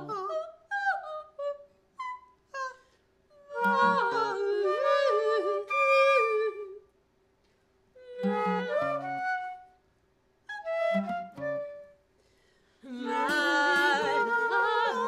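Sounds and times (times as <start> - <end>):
improvised flute playing: 0.0 - 6.9, 8.0 - 15.0.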